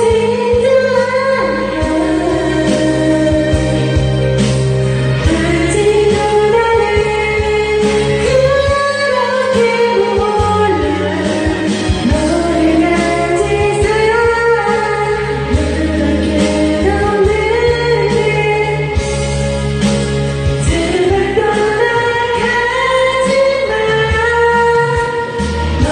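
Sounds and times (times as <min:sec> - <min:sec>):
karaoke backing track: 0:00.0 - 0:25.9
person singing pop song: 0:00.0 - 0:25.9.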